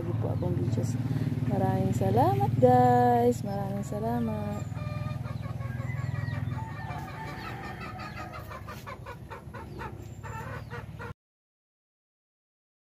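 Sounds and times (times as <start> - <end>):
chickens clucking: 0.0 - 11.2.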